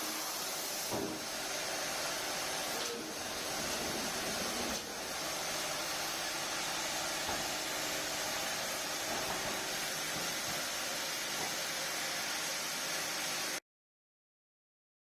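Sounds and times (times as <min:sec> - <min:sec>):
steady hissing noise: 0:00.0 - 0:13.6.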